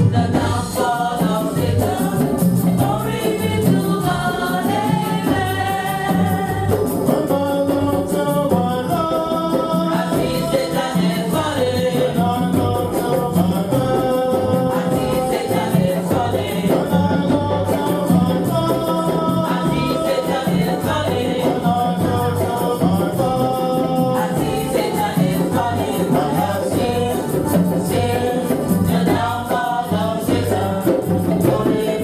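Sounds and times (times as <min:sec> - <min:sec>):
choir singing a gospel hymn: 0:00.0 - 0:32.0
steady drum beat: 0:00.0 - 0:32.0.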